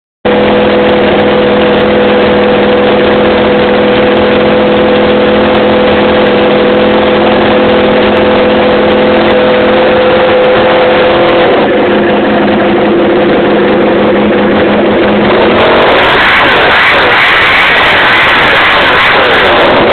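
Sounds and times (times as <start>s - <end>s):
loud motorcycle engine running: 0.2s - 19.9s.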